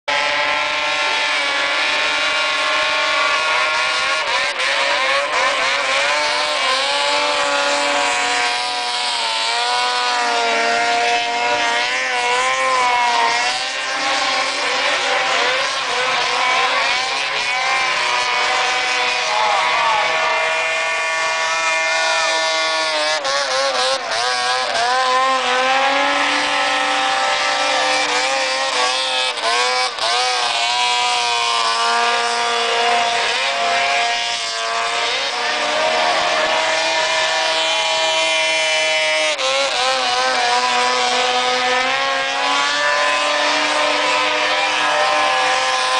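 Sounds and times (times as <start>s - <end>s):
snowmobile engines at high revs: 0.0s - 45.9s.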